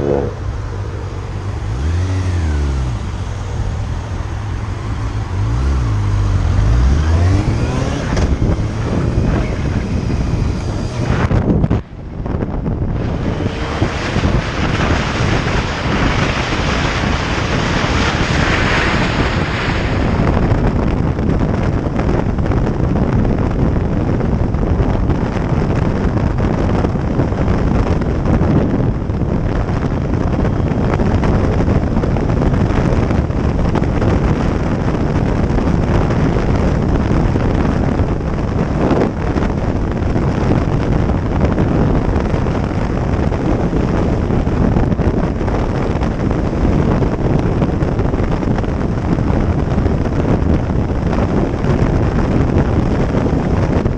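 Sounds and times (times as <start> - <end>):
motorcycle engine and road noise: 0.0 - 53.9
wind rushing over microphone: 0.0 - 53.9.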